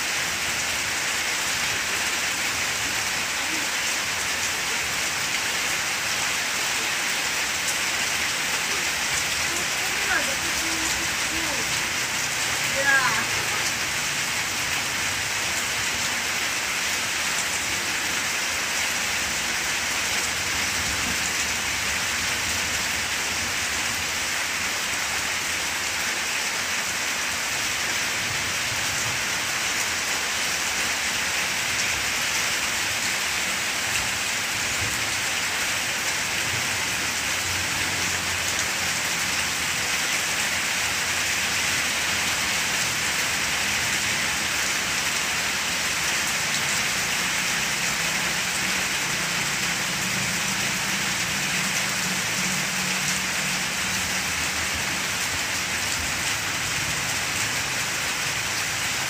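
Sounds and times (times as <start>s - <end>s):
rain on broad leaves: 0.0s - 59.0s.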